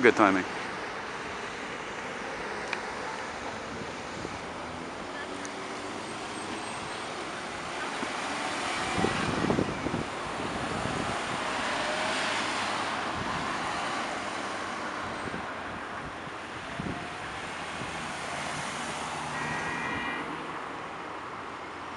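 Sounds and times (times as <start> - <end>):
cars passing: 0.0 - 21.9.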